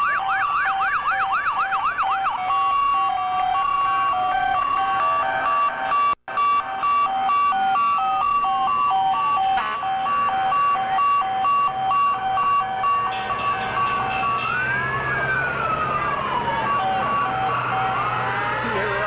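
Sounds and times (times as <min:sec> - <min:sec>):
hi-lo siren: 0:00.0 - 0:19.0
wailing sirens: 0:00.0 - 0:19.0.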